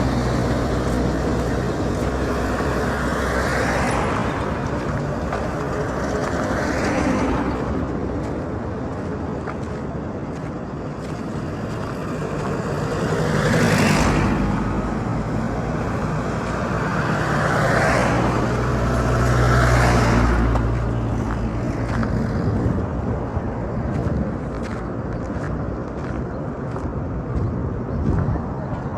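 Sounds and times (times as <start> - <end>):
low engine hum: 0.0 - 28.9
vehicles passing close by: 0.0 - 28.9.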